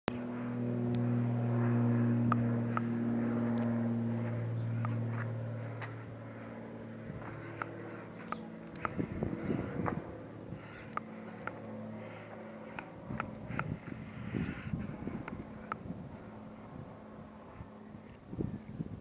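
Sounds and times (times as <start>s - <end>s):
propeller plane droning overhead: 0.1s - 19.0s.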